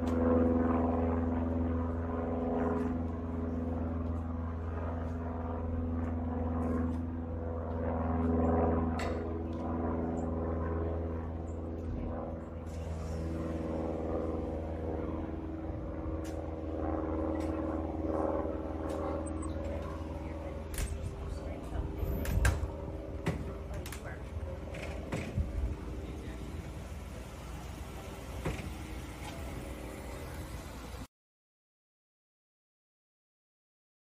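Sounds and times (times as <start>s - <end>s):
propeller airplane droning overhead: 0.0s - 31.1s.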